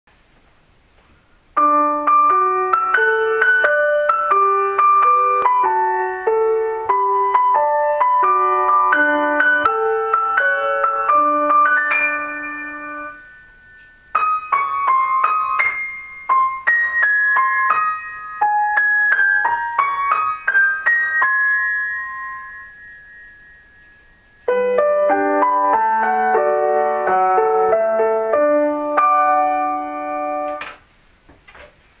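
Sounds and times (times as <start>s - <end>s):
piano chime melody: 1.6s - 30.6s.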